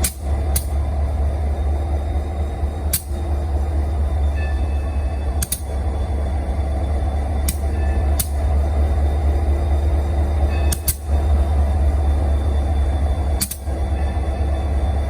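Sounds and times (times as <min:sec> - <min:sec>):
locomotive diesel idling: 0:00.0 - 0:15.0.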